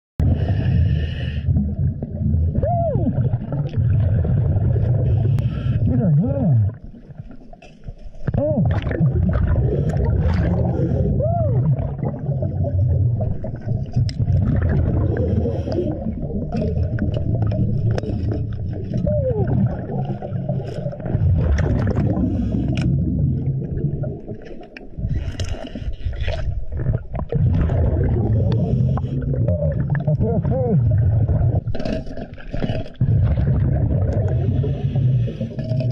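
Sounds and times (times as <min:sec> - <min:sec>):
underwater bubbling from breathing: 0:00.2 - 0:07.5, 0:08.1 - 0:35.9.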